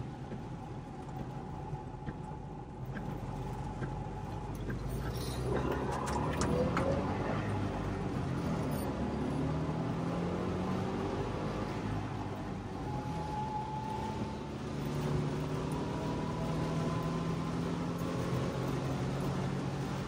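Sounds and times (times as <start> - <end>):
two-stroke car engine driving: 0.0 - 20.0.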